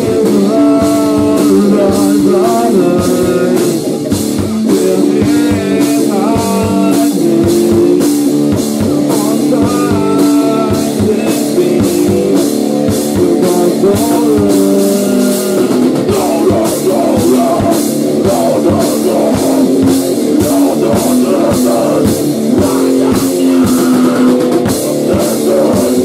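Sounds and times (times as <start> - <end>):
electric guitar: 0.0 - 26.0
fast cymbal beat: 0.0 - 26.0
rock band playing: 0.0 - 26.0.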